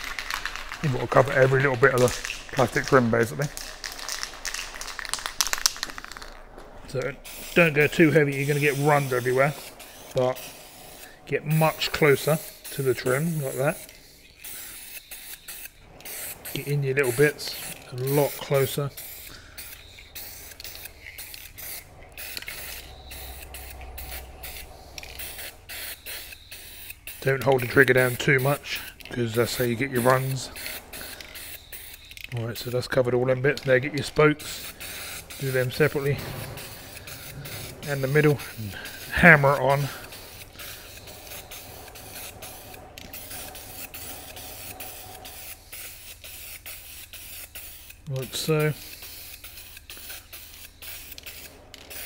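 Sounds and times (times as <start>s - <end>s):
aerosol spray can hissing: 7.2s - 52.0s.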